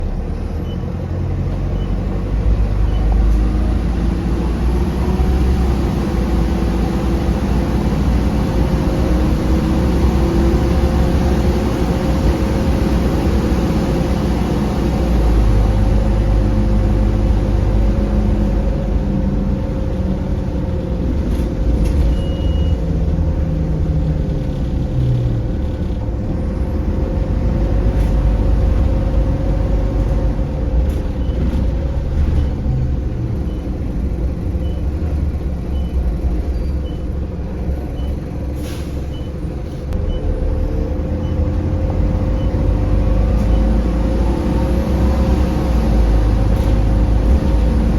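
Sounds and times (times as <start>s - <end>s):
bus engine rumble: 0.0s - 47.9s.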